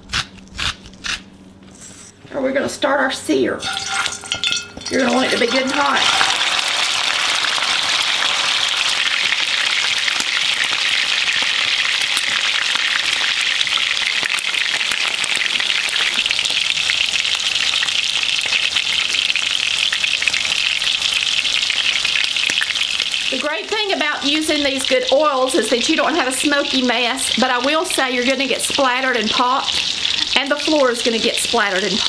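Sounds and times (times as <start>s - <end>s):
steak sizzling in oil: 3.7s - 32.0s.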